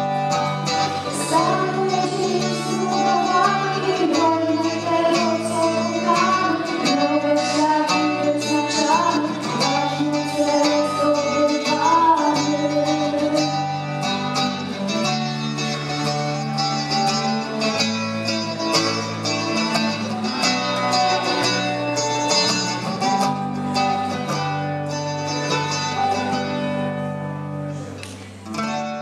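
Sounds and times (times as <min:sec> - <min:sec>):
bass guitar line: 0:00.0 - 0:29.0
electric guitar plucked notes: 0:00.0 - 0:29.0.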